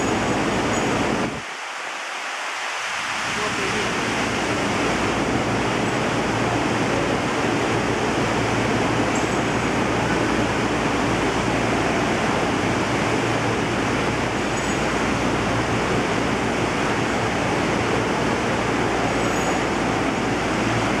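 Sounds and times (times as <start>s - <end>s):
water rushing in aquarium: 0.0s - 21.0s.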